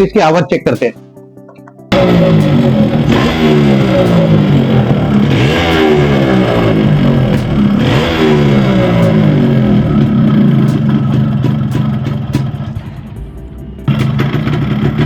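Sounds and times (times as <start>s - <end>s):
engine piston noise: 1.5s - 15.0s
two-stroke engine revving: 1.9s - 15.0s.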